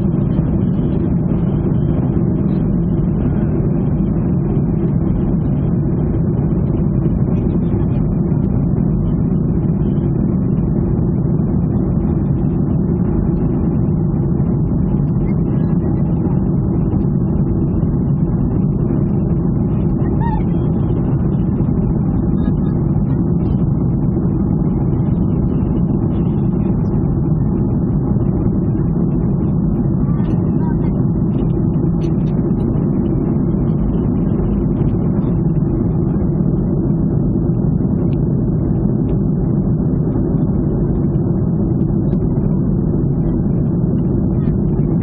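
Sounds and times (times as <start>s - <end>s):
jet engines droning in cabin: 0.0s - 45.0s.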